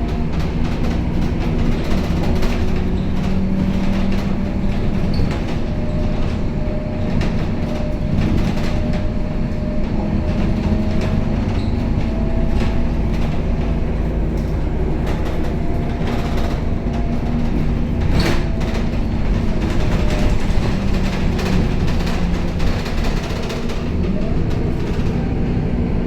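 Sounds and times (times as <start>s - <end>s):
bus body rattling and clicking: 0.0s - 26.0s
bus engine hum with whine: 0.0s - 26.0s.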